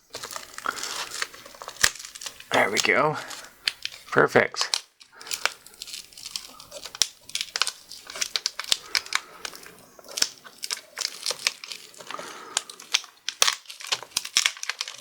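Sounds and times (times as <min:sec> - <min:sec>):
laptop panel crinkling and clicking: 0:00.0 - 0:15.0.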